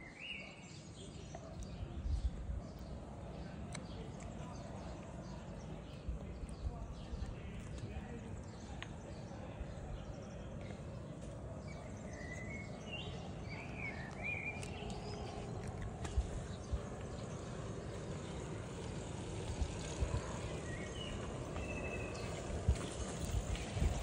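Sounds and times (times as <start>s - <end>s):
steady low hum: 0.8s - 24.0s.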